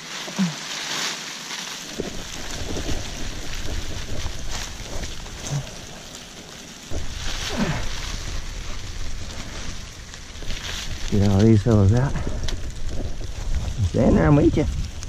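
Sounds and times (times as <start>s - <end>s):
crackling rustle of shells: 0.0s - 15.0s
wind on microphone: 1.9s - 6.1s, 6.9s - 15.0s
low handling rumble: 1.9s - 15.0s.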